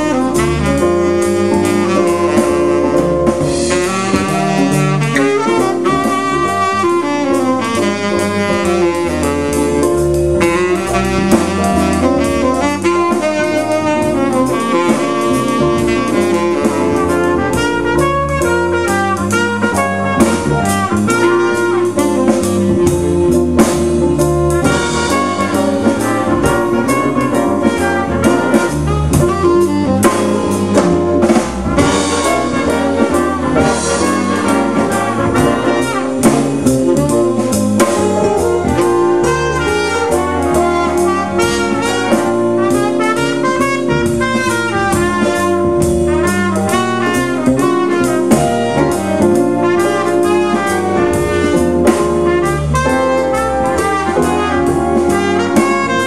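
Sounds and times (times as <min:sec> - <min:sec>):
big band playing jazz: 0:00.0 - 0:56.0
steady drum beat: 0:00.0 - 0:56.0.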